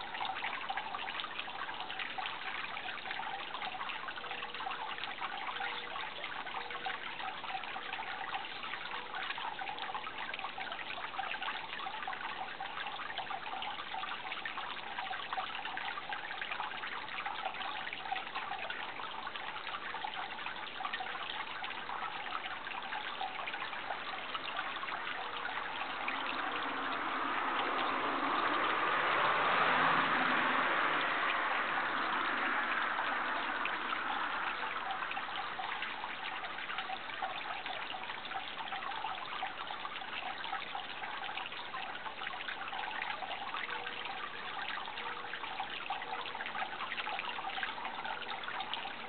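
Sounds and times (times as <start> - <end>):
water trickling: 0.0 - 49.0.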